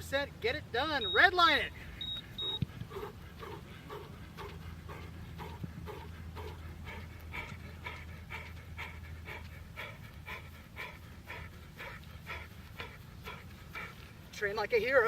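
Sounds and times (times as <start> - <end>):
low steady hum: 0.0 - 15.0
person panting hard: 1.7 - 14.4.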